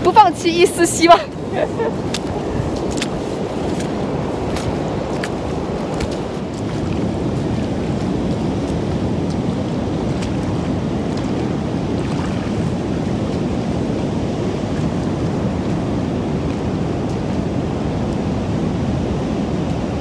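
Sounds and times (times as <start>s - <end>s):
ocean surf rushing: 0.0s - 20.0s
wind buffeting microphone: 0.0s - 20.0s.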